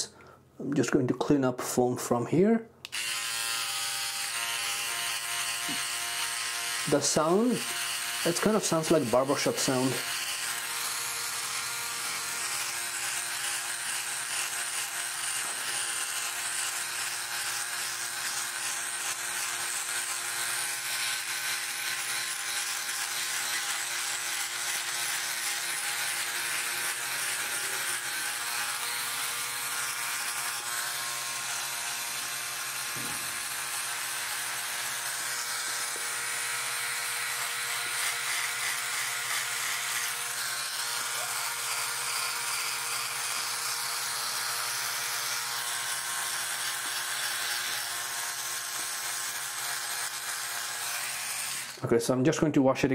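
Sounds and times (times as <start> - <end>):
electric shaver buzzing: 2.8 - 52.0.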